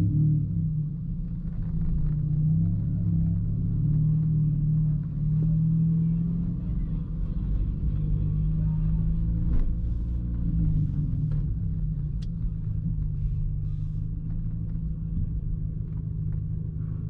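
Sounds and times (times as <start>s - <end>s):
car engine droning in cabin: 0.0s - 17.0s.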